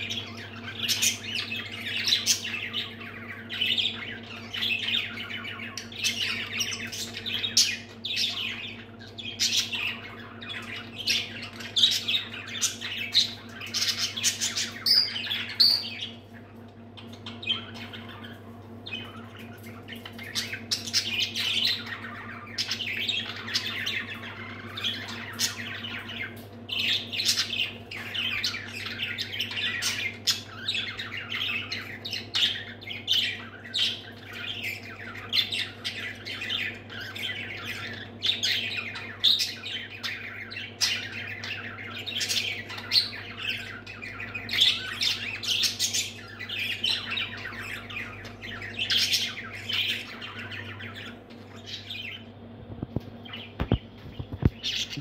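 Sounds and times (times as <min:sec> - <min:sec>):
budgerigars chirping: 0:00.0 - 0:55.0.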